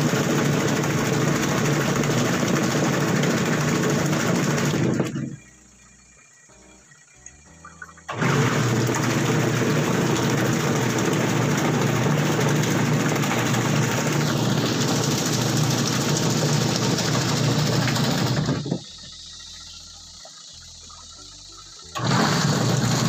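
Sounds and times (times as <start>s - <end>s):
washing machine churning water: 0.0s - 23.0s.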